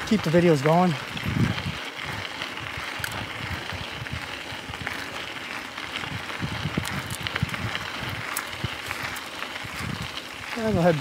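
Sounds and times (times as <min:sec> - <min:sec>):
bike clicks and rattles: 0:00.0 - 0:11.0
bike tyres rolling on dirt: 0:00.0 - 0:11.0.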